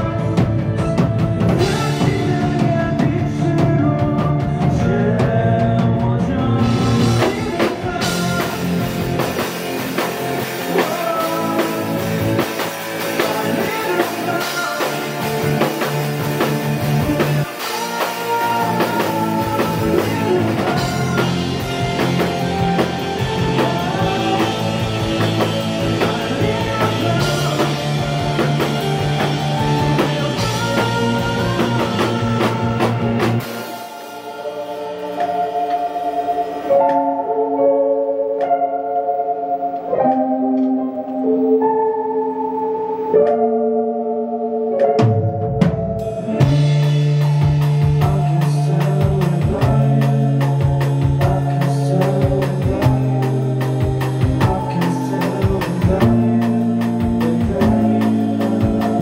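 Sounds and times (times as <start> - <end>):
drum kit: 0.0 - 37.2, 44.8 - 59.0
man singing lead vocal: 0.0 - 37.3, 46.1 - 59.0
electric guitar: 0.0 - 59.0.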